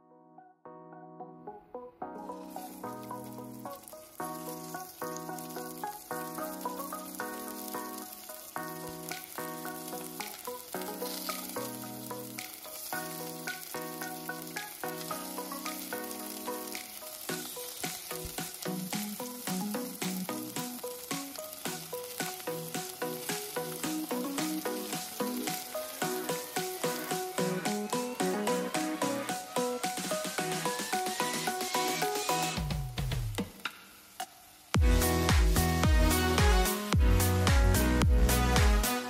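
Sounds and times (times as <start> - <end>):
melodic background music: 0.0 - 33.3, 34.8 - 39.0
food sizzling in a pot: 2.2 - 39.0.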